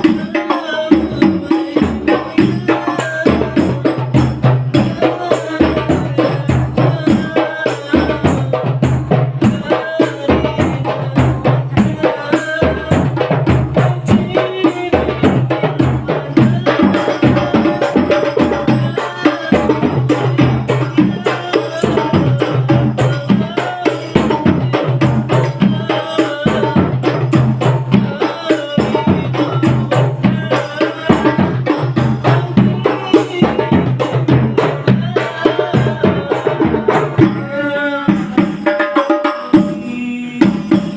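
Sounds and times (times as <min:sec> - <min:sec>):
frame drums playing fast rhythm: 0:00.0 - 0:40.9
voices singing: 0:00.0 - 0:40.9.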